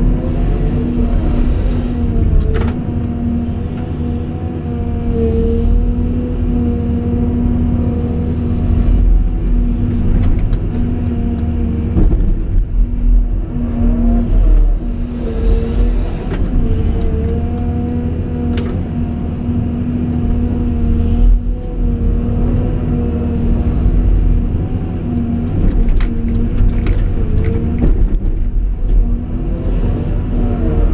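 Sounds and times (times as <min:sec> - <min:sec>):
excavator engine droning: 0:00.0 - 0:30.9.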